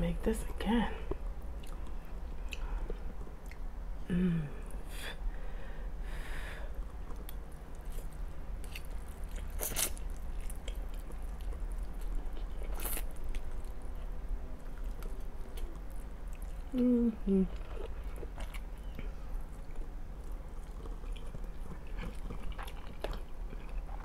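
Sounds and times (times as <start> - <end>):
person chewing food: 1.1 - 3.7, 6.7 - 24.0.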